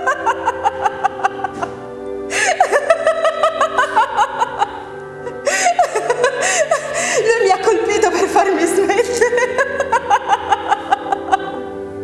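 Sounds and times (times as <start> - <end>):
woman laughing hard: 0.0 - 8.0, 8.9 - 11.8
background music with held tones: 0.0 - 12.0.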